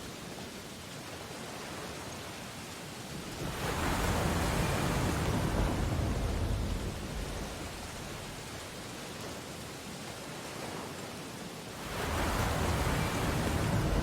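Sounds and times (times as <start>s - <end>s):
ocean waves washing on beach: 0.0s - 14.0s.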